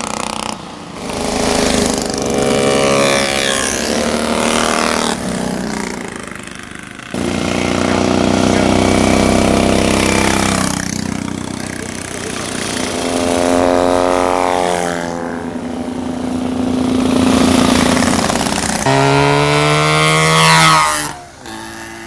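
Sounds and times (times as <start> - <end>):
motorcycle passing close by: 0.0 - 22.0
racing motorcycles accelerating: 0.0 - 22.0.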